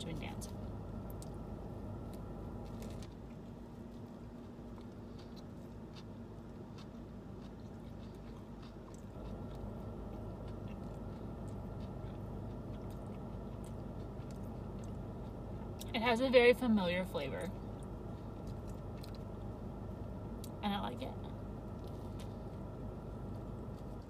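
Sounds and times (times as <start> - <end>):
steady low hum: 0.0 - 24.0
close chewing with mouth clicks: 2.0 - 15.9, 17.5 - 20.6, 21.6 - 24.0.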